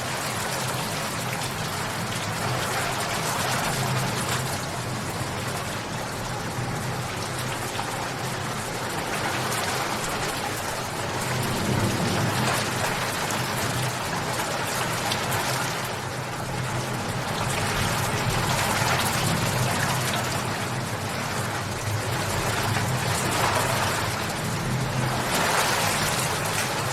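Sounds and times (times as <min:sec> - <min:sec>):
rain pattering: 0:00.0 - 0:26.9.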